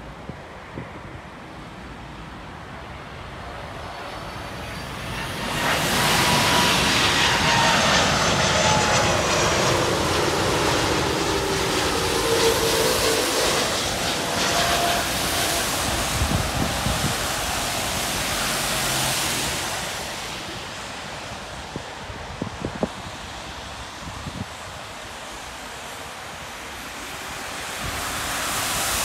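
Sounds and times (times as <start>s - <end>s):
jet engines roaring: 0.1s - 29.0s.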